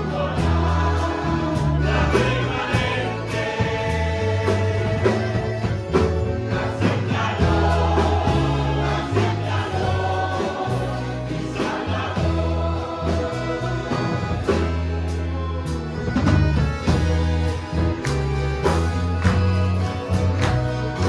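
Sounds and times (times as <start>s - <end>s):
band playing and singing a hymn: 0.0s - 21.0s.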